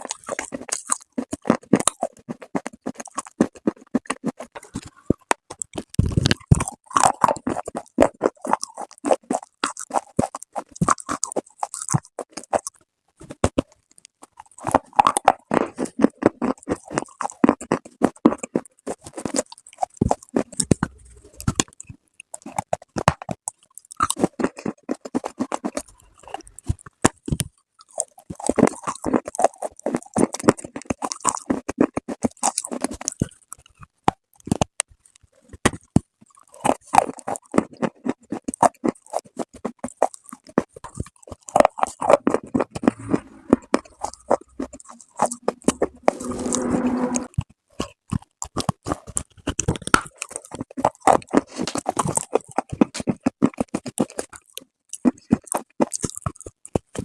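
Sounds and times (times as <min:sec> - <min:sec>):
crunching and chewing clay: 0:00.0 - 0:46.3, 0:47.3 - 0:57.0.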